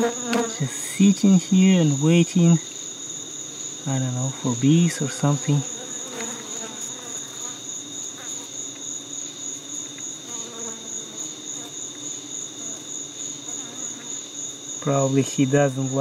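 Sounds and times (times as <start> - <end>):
honeybees humming: 0.0 - 16.0
night insects trilling: 0.0 - 16.0.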